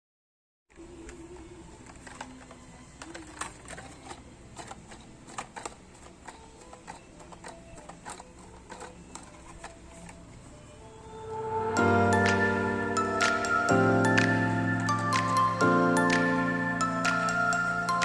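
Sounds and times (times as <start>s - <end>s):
faint low room hum: 0.7s - 18.0s.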